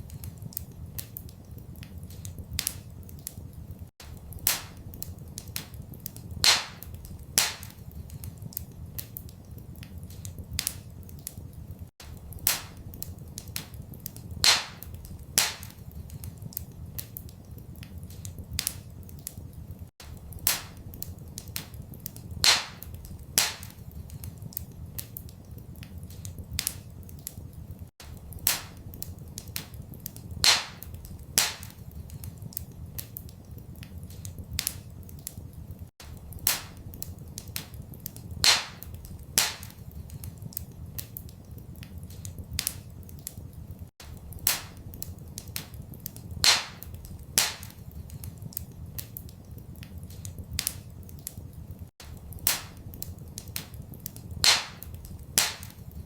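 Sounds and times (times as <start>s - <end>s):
sharp fire pops: 0.0s - 35.4s, 36.0s - 43.4s, 44.0s - 51.4s, 52.0s - 56.0s
wood fire crackling: 0.0s - 56.0s.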